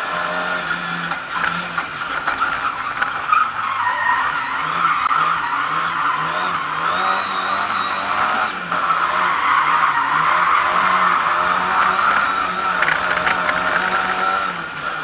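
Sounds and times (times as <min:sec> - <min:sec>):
car engine running hard: 0:00.0 - 0:15.0
tyres squealing and skidding: 0:00.0 - 0:15.0.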